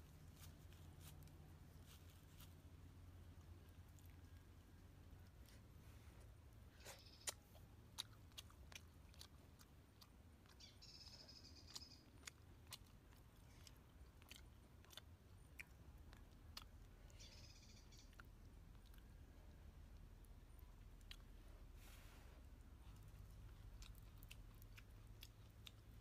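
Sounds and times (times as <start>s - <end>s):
chewing and mouth clicks: 3.2s - 5.8s, 6.8s - 21.8s, 22.6s - 26.0s.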